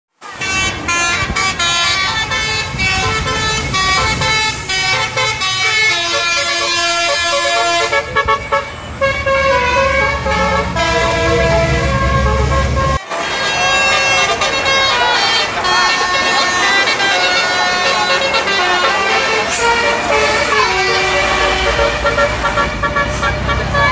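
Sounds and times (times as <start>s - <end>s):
bus engine running: 0.2s - 23.9s
bus horns playing melodies: 0.2s - 23.9s.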